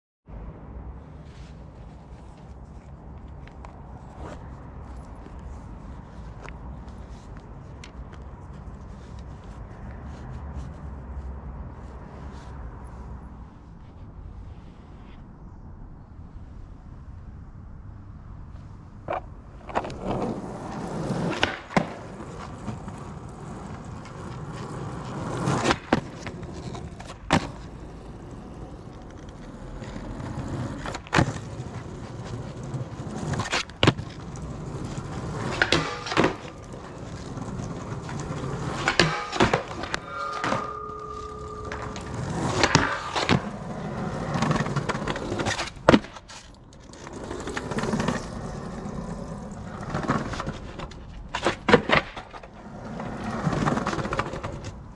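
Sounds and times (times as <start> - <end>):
skateboard wheels rolling on pavement: 0.3 - 54.9
skateboard clacking on ground: 1.8 - 10.8, 19.0 - 54.9.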